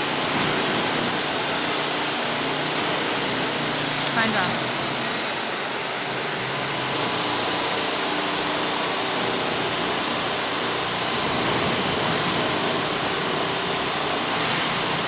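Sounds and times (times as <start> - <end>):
machine rollers whirring: 0.0 - 15.0.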